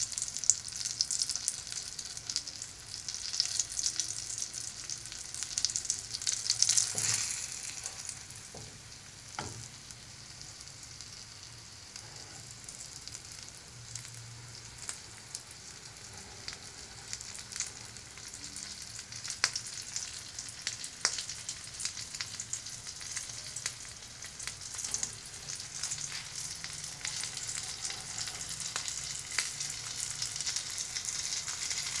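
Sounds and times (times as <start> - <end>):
food frying in hot oil: 0.0 - 32.0.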